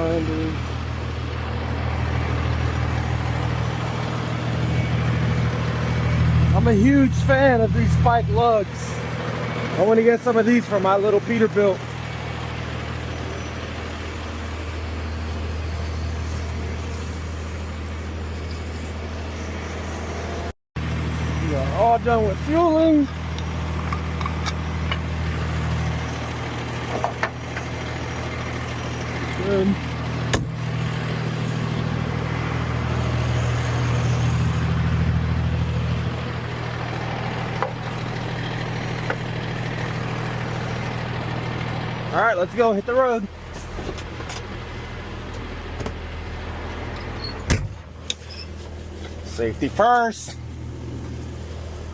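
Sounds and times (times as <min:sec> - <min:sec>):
truck engine idling: 0:00.0 - 0:51.9.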